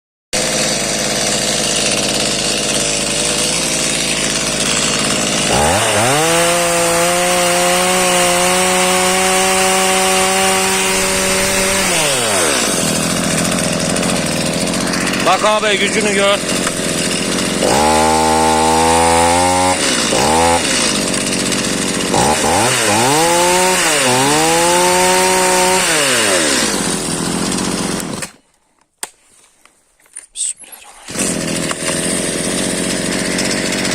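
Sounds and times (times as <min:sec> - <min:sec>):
chainsaw engine revving: 0:00.4 - 0:28.4, 0:31.0 - 0:33.9.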